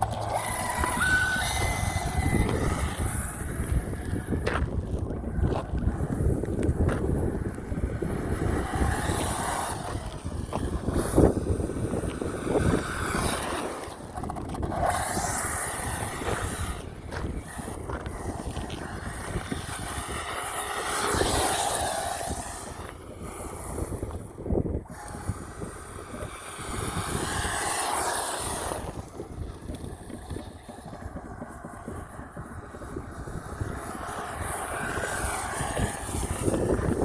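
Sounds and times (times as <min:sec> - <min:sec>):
rc truck motor whining: 0:00.0 - 0:37.0
tyre and wind noise: 0:00.0 - 0:37.0.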